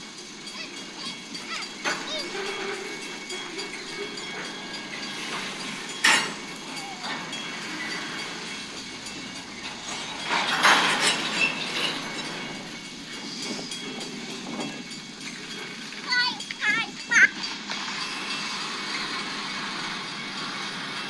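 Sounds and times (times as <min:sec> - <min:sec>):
freight train cars rolling: 0:00.0 - 0:21.0.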